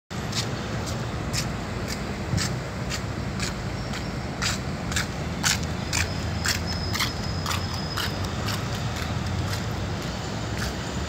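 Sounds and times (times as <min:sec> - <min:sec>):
road traffic rumble: 0:00.1 - 0:11.0
footsteps walking: 0:00.2 - 0:10.8.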